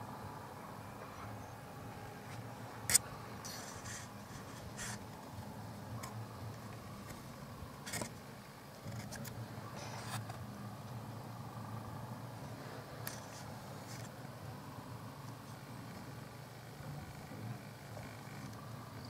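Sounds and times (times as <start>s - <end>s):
distant road traffic hum: 0.0s - 19.0s.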